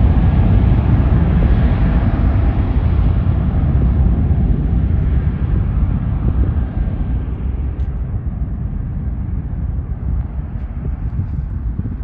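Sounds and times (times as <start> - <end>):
jet engines rumbling at takeoff: 0.0 - 12.0.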